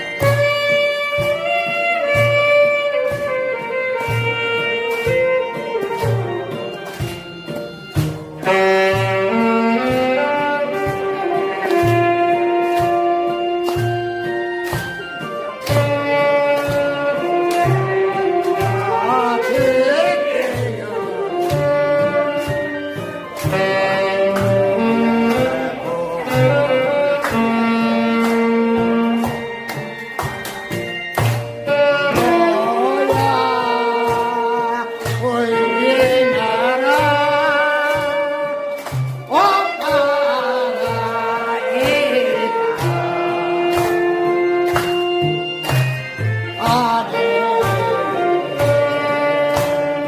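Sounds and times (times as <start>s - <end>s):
bass and beat accompaniment: 0.0s - 50.0s
saxophone melody: 0.0s - 50.0s.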